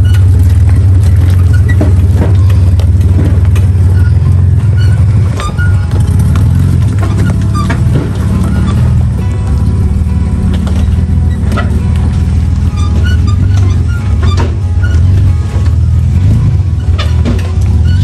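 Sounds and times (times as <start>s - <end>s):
engine low drone: 0.0s - 18.0s
rocks crunching under tyres: 0.0s - 18.0s.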